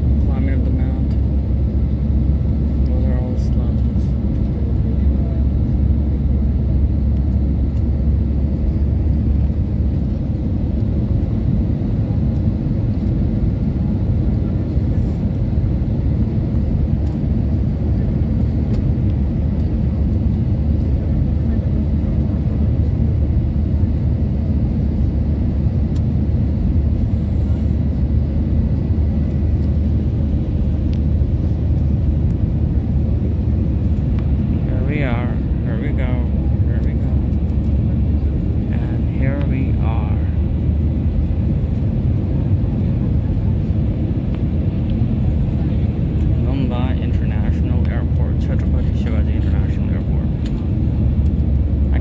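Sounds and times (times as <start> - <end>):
aircraft engine rumble in cabin: 0.0 - 52.0.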